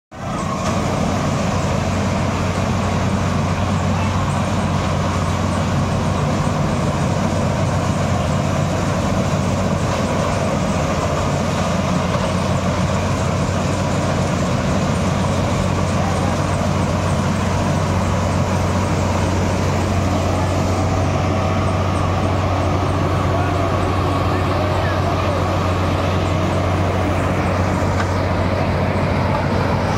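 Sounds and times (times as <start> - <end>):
combine harvester running: 0.1 - 29.9.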